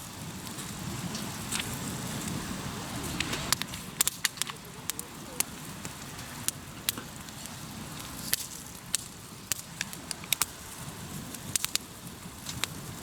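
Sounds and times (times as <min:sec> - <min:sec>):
campfire crackling: 0:00.0 - 0:13.0
sharp snaps and pops: 0:00.4 - 0:02.4, 0:03.1 - 0:12.9.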